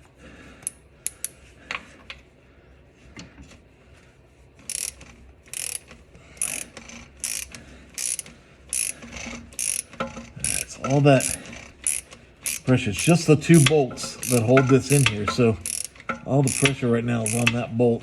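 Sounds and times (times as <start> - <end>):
ratchet wrench clicking: 0.6 - 2.2, 4.6 - 17.8.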